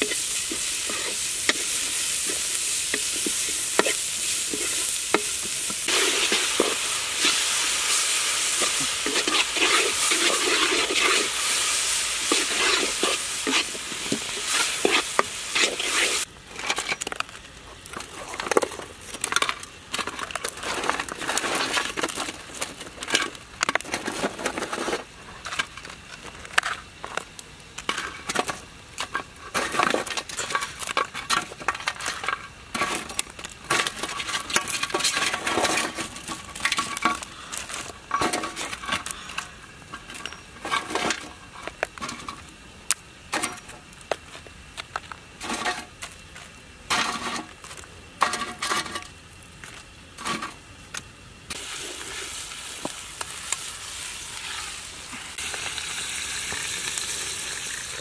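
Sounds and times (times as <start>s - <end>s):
wooden spatula working in a pan: 0.0s - 17.2s, 17.8s - 42.5s, 51.5s - 58.0s.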